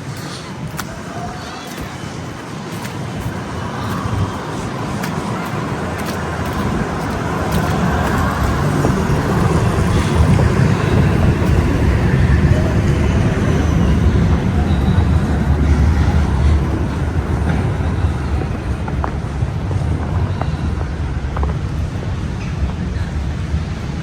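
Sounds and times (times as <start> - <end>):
passing motor vehicle rumble: 2.4 - 24.0.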